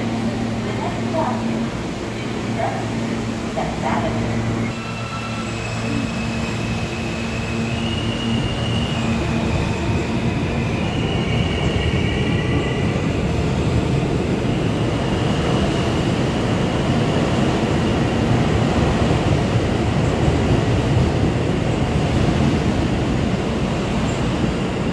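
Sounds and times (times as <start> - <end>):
high whine of train: 0.0 - 24.9
subway train pulling out: 0.0 - 24.9
train rumble and rail noise: 0.0 - 24.9.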